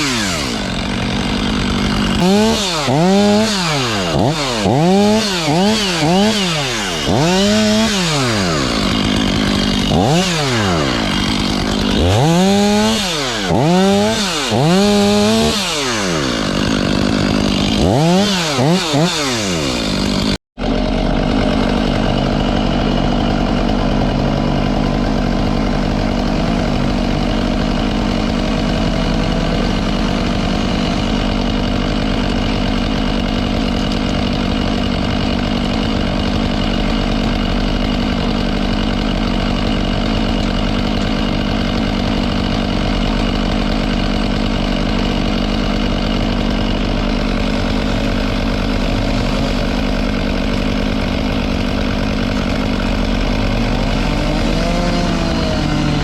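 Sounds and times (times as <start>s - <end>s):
small engine running steadily: 0.0s - 56.0s.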